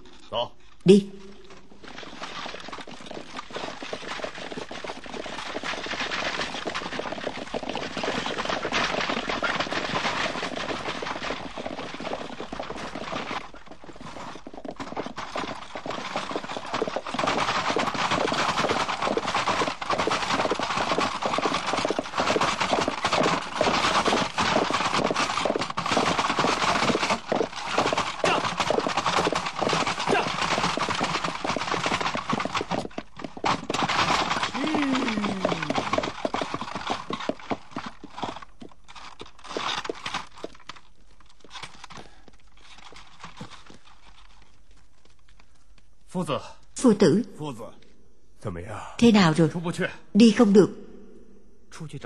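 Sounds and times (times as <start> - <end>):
horse hoofbeats: 0.9 - 46.1.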